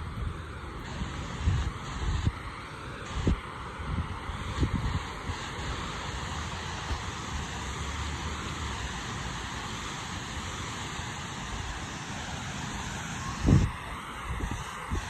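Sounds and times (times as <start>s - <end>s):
waterfall rushing: 0.8s - 15.0s.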